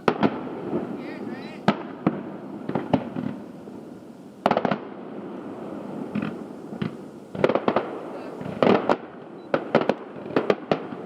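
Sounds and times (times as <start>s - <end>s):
distant fireworks bursting: 0.0s - 11.0s.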